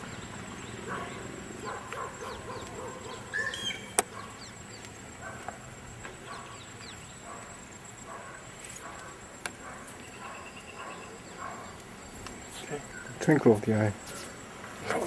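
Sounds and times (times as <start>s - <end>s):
bird chirps: 0.0s - 13.2s
high insect whine: 0.0s - 15.0s.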